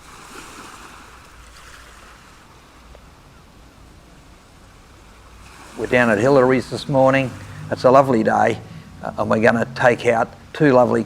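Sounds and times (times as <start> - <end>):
water lapping: 0.0 - 11.0
wind: 0.0 - 11.0.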